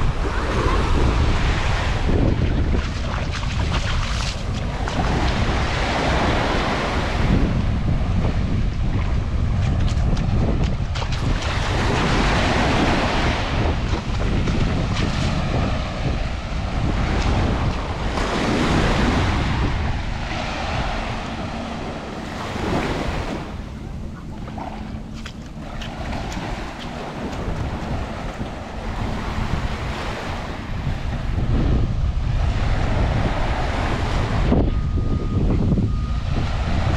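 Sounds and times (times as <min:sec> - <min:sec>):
surf breaking on sandy beach: 0:00.0 - 0:36.9
wind buffeting microphone: 0:00.0 - 0:36.9.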